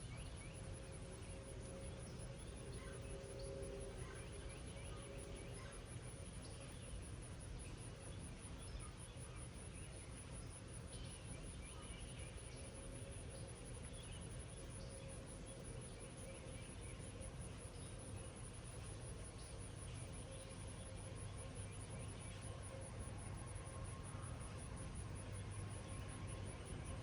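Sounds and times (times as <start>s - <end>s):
faint bird chirps: 0.0s - 27.0s.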